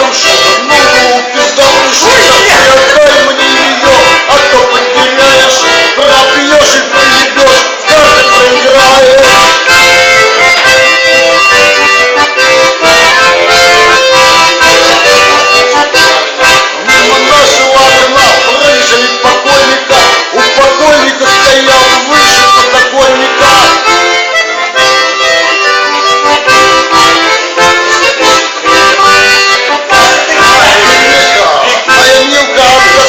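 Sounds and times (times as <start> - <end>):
accordion music: 0.0 - 33.0.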